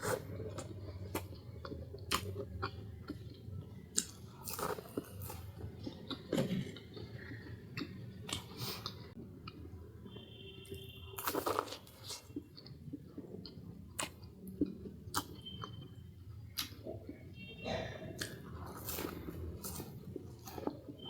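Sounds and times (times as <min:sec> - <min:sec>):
chewing crunchy food: 0:00.0 - 0:09.7, 0:10.7 - 0:21.0.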